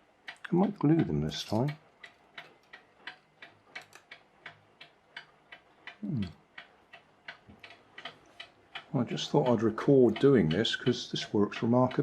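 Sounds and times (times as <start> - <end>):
mechanical clock ticking: 0.0 - 12.0.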